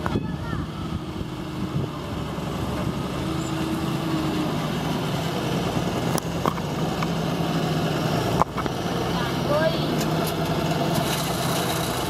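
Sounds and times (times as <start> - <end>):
tractor diesel engine passing: 0.0 - 12.0.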